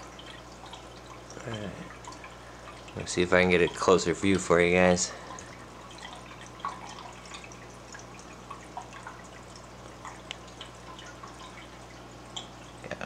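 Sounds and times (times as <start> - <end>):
steady low hum: 0.0 - 13.0
water dripping and trickling: 0.0 - 13.0.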